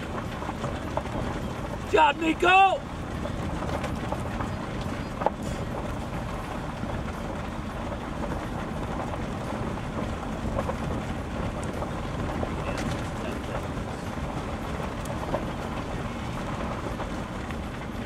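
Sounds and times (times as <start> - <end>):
vehicle rolling over dirt road: 0.0 - 18.0
wind buffeting microphone: 0.0 - 18.0.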